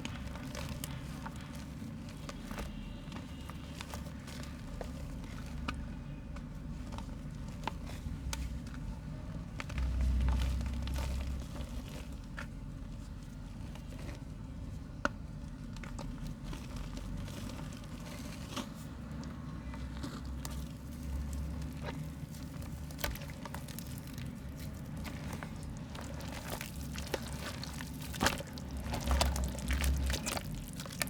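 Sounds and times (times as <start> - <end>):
mud crumbling crackles: 0.0 - 31.0.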